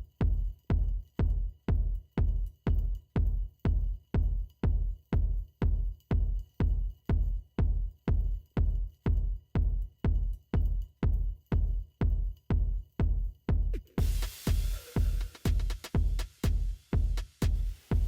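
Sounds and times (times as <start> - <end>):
electronic music with kick drum: 0.0 - 18.0.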